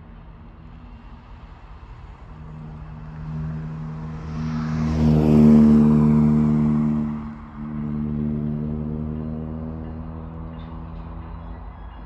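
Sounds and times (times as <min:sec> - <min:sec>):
diesel locomotive engine: 0:00.0 - 0:12.0.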